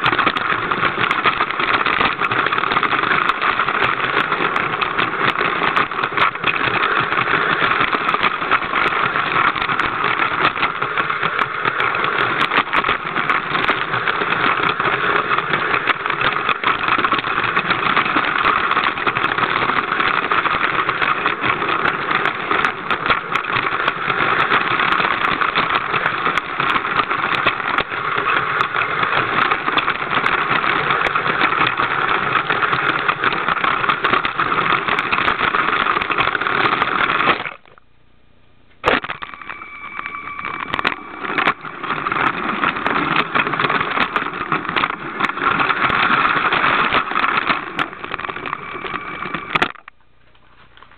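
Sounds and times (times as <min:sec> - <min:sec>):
toy train motor running: 0:00.0 - 0:37.5, 0:38.9 - 0:49.9
wheels rattling on plastic track: 0:00.0 - 0:37.8, 0:38.8 - 0:50.9.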